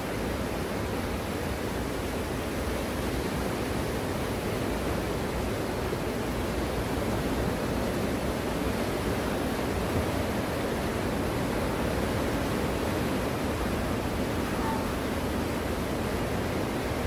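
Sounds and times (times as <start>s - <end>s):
waves breaking on sandy beach: 0.0s - 17.0s.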